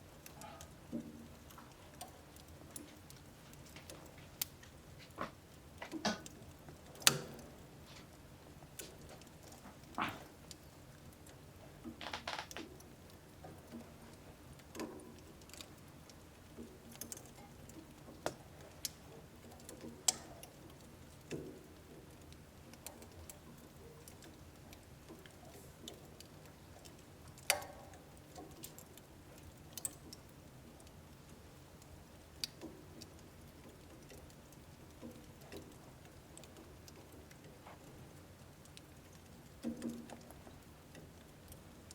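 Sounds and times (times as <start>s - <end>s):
wood fire crackling in a stove: 0.0s - 41.9s.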